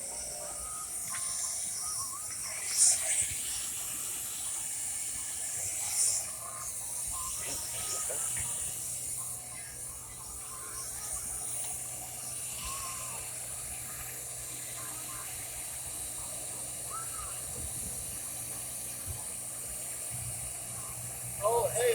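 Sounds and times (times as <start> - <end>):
hot-air welder hissing: 0.0 - 21.9.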